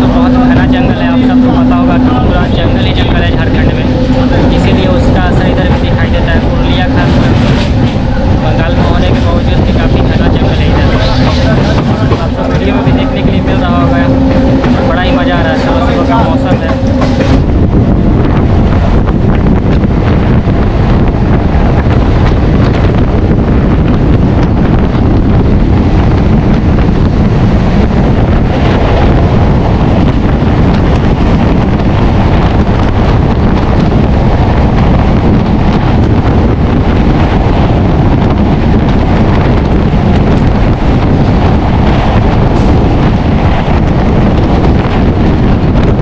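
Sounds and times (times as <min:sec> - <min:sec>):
moving passenger train: 0:00.0 - 0:46.0
wind buffeting microphone: 0:00.0 - 0:46.0.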